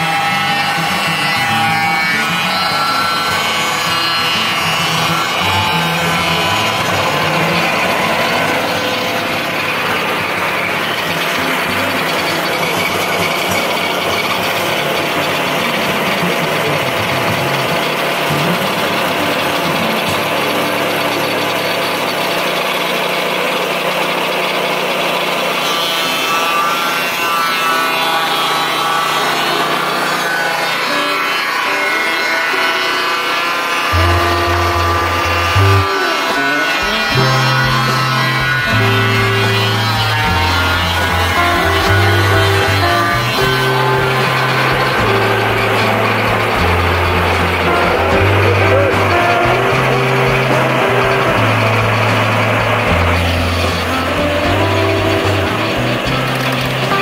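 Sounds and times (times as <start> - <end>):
band saw cutting log: 0.0 - 57.0
gasoline engine droning: 0.0 - 57.0.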